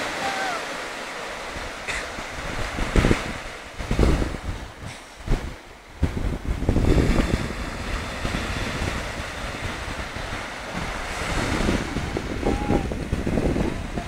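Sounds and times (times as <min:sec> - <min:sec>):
surf breaking in shallow water: 0:00.0 - 0:14.0
wind on microphone: 0:00.0 - 0:14.0.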